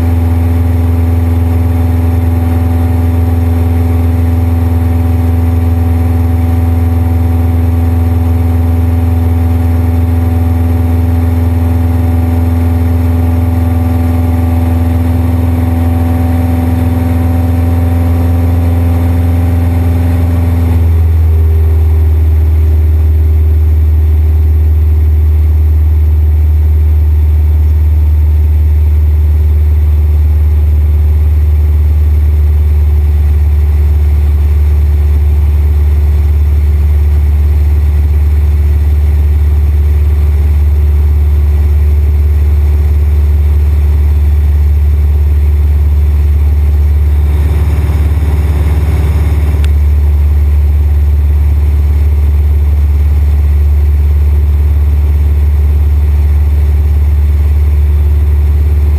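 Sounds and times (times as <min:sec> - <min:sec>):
propeller plane engine drone: 0:00.0 - 0:58.9.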